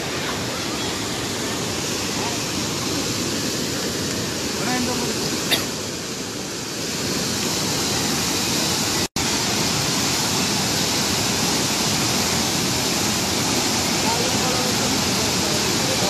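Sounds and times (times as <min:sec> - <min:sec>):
floodwater rushing and churning: 0:00.0 - 0:16.0.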